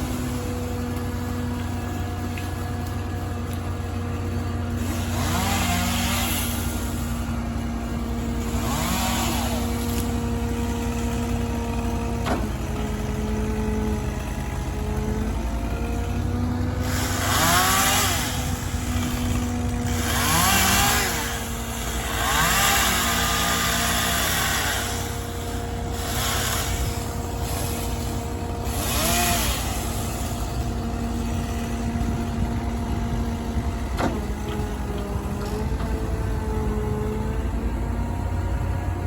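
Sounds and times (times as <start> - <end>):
chainsaw revving: 0.0 - 35.6
diesel engine running: 0.0 - 39.0.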